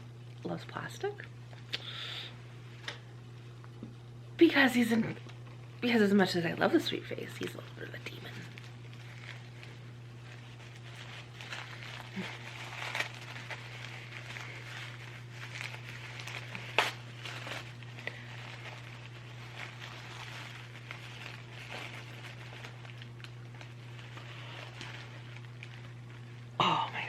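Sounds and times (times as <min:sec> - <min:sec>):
low electrical hum: 0:00.0 - 0:27.0
wrapping paper crinkling: 0:04.4 - 0:26.6.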